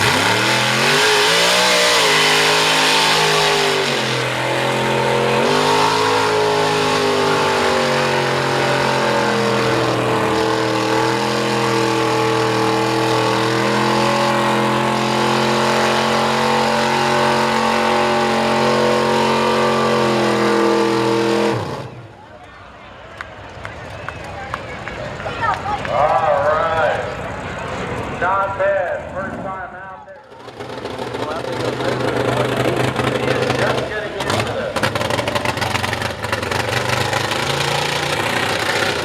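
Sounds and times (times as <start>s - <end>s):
truck engine running at high revs: 0.0s - 22.3s, 23.5s - 39.0s.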